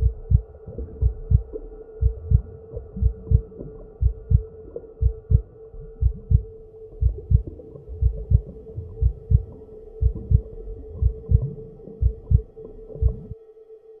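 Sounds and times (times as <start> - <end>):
heartbeat thumps: 0.0 - 13.4
steady low hum: 0.0 - 13.4.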